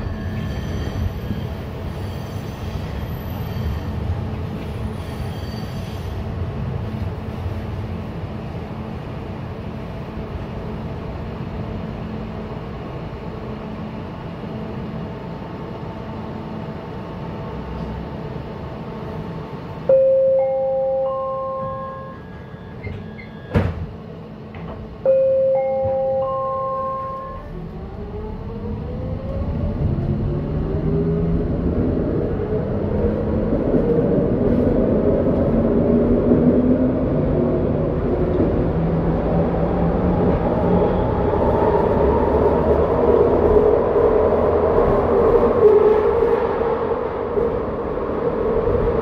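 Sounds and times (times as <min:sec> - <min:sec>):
train car rumbling hum: 0:00.0 - 0:49.0.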